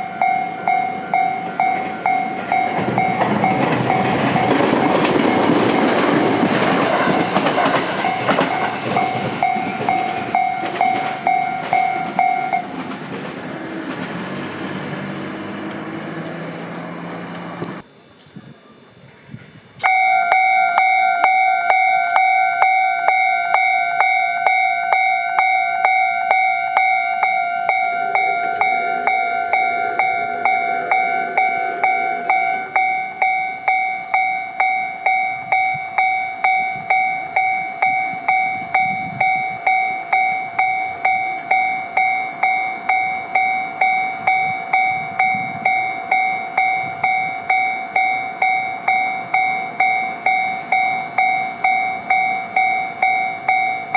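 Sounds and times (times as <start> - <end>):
level crossing warning bell ringing: 0.0 - 17.8, 19.9 - 53.9.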